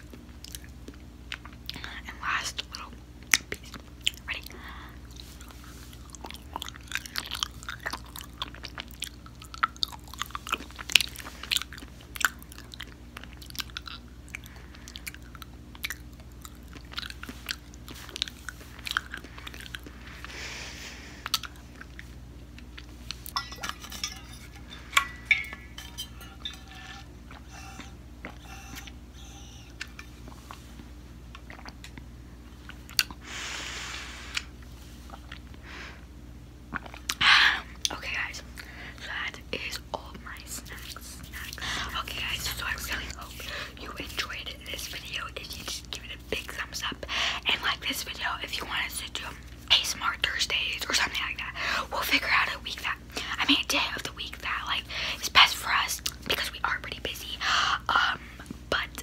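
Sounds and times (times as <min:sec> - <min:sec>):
person chewing and crunching food: 0:00.0 - 0:01.8, 0:02.6 - 0:33.2, 0:34.2 - 0:35.7, 0:36.6 - 0:58.9
low steady hum: 0:00.0 - 0:59.0.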